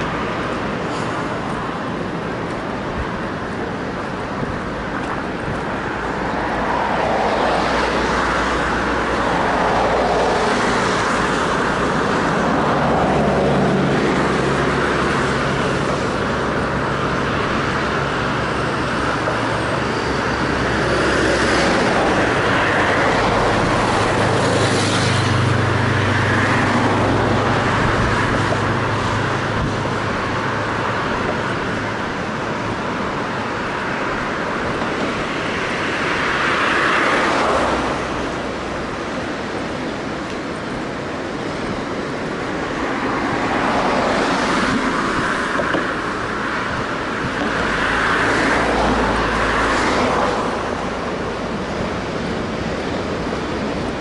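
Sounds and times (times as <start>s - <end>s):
cars passing: 0.0s - 54.0s
low engine hum: 0.0s - 54.0s.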